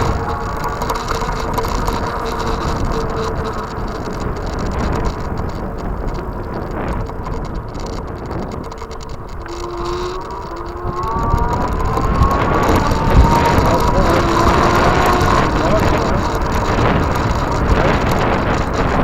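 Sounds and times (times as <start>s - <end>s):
thin rising whine: 0.0s - 19.0s
tyre noise: 0.0s - 19.0s
wind buffeting microphone: 0.0s - 19.0s.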